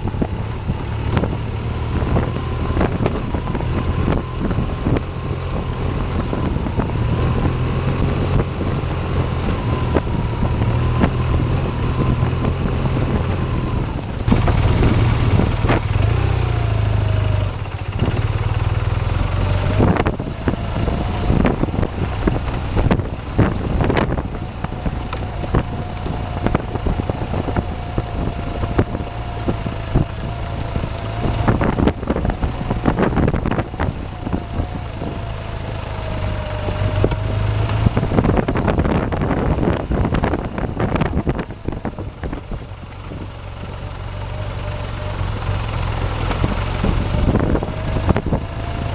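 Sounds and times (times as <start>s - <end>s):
motorcycle engine running: 0.0s - 48.9s
wind on microphone: 0.0s - 48.9s.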